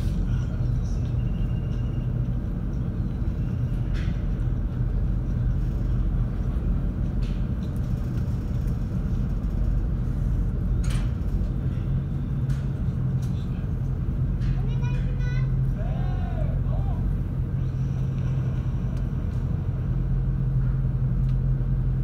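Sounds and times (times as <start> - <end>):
ferry engine drone: 0.0 - 22.0.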